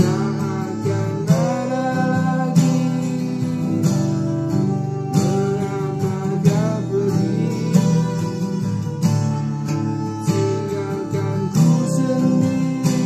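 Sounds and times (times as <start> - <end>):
guitar-led music with sliding melody: 0.0 - 13.0.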